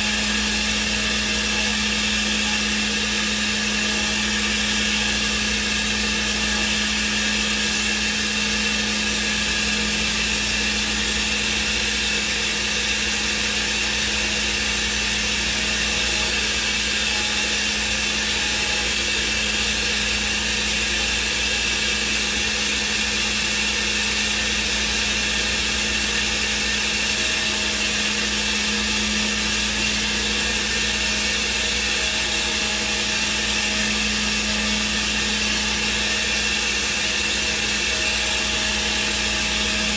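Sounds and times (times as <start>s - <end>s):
cnc router machine hum: 0.0s - 39.9s.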